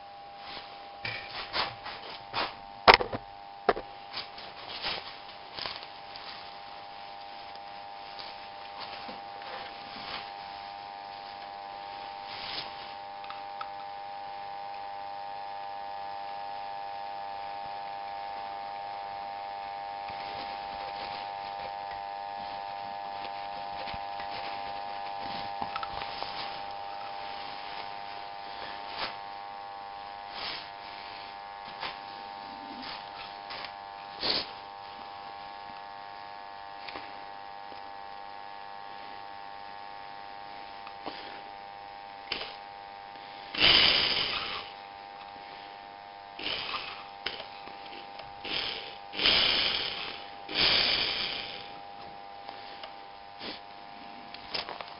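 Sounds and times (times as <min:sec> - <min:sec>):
high-pitched electric hum: 0:00.0 - 0:54.9.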